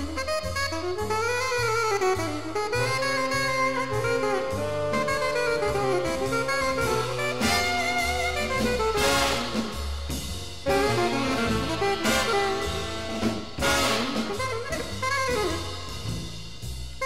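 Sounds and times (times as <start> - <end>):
big band jazz: 0.0 - 17.0.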